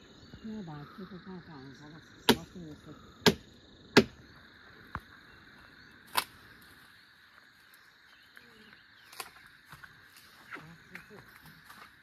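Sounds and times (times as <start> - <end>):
faint insect drone: 0.0 - 12.0.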